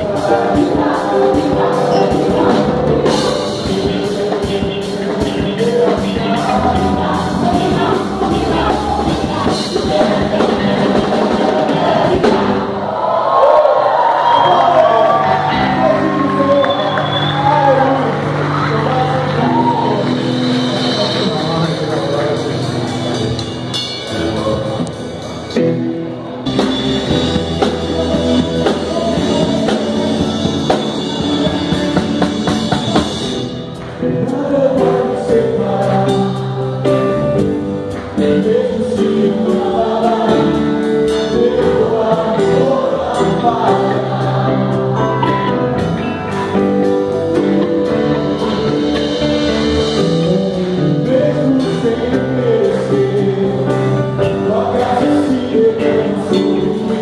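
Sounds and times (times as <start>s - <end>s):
singers and crowd singing: 0.0s - 23.4s, 26.5s - 57.0s
band playing gospel music: 0.0s - 57.0s.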